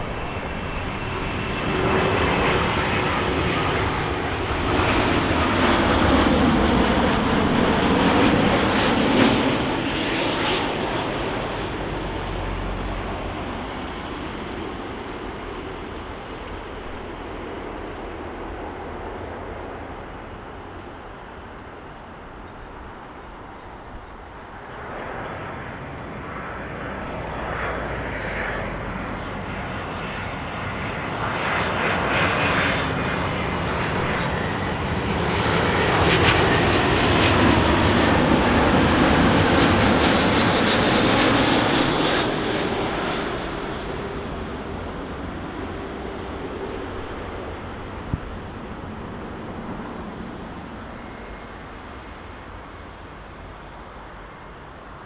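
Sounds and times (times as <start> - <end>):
jet airliner engines: 0.0 - 55.0.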